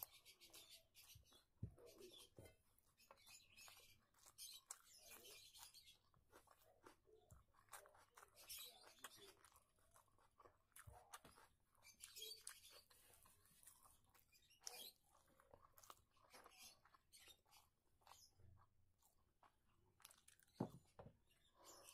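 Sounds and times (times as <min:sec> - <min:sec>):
close-up chewing of rice: 0:00.0 - 0:21.9.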